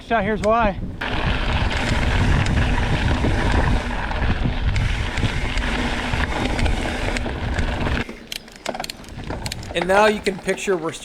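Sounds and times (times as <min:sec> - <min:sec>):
wind buffeting microphone: 0:00.0 - 0:11.0
bike clicks and rattles: 0:00.4 - 0:11.0
tyres rolling on dirt trail: 0:00.9 - 0:11.0.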